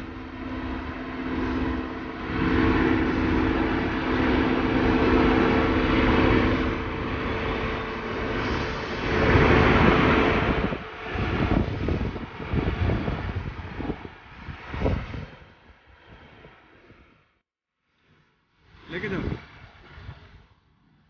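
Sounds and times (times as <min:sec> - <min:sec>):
broad rushing noise: 0:00.0 - 0:17.1
construction machinery engine hum: 0:00.0 - 0:17.4.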